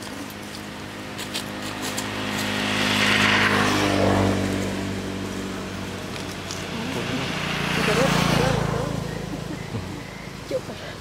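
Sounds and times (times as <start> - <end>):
vehicle passing by: 0.3 - 11.0.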